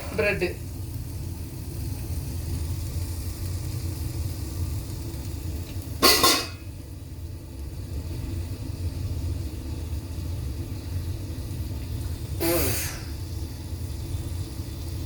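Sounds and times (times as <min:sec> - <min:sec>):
bread cooking in a pan: 0:00.0 - 0:15.0.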